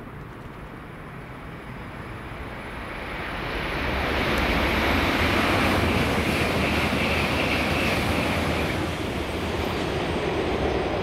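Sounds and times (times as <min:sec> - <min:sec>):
high-speed train rushing past: 0:00.0 - 0:11.0.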